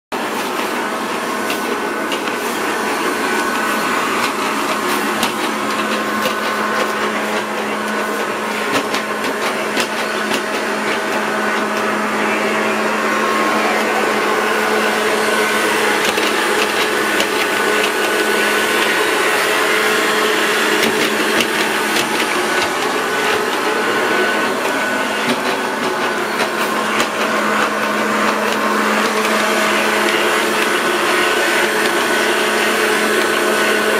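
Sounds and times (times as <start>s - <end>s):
robot vacuum motor humming: 0.2s - 33.9s.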